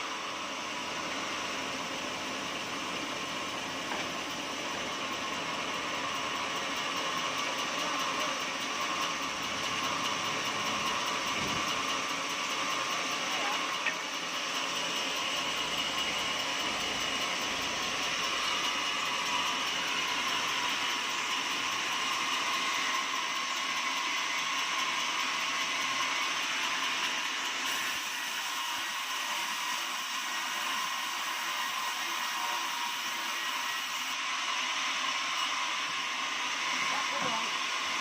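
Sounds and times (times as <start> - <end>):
sawmill machinery drone: 0.0 - 38.0
thin steady whine: 0.0 - 38.0.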